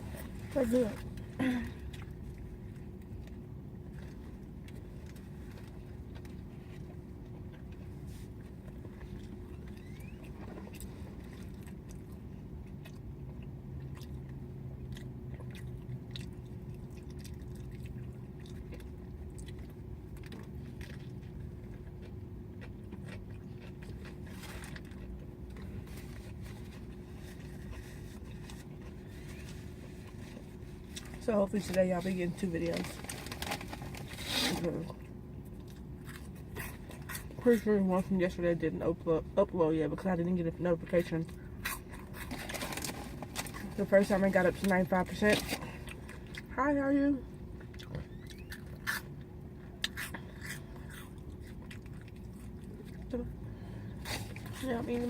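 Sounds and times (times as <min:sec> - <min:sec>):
person chewing food: 0:00.0 - 0:31.2, 0:34.9 - 0:37.4, 0:41.2 - 0:43.7, 0:45.6 - 0:46.5, 0:47.4 - 0:54.6
steady low hum: 0:00.0 - 0:55.0.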